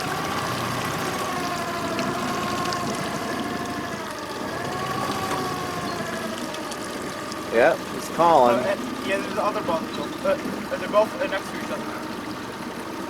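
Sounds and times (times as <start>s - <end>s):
faint wavering whine: 0.0s - 13.0s
vehicle engine idling: 0.0s - 13.0s.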